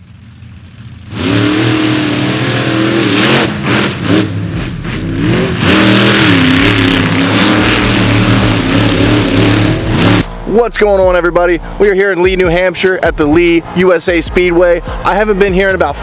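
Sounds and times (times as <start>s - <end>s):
monster truck engines revving: 0.0s - 15.8s.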